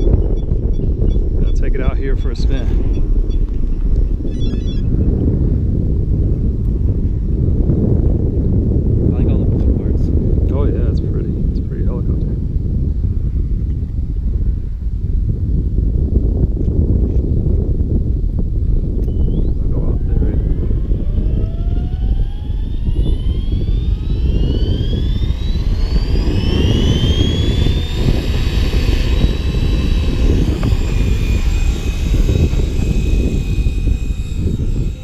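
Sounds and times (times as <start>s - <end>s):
helicopter motor and rotor whine: 0.0s - 12.4s, 16.6s - 35.0s
wind rumble on microphone: 0.0s - 35.0s.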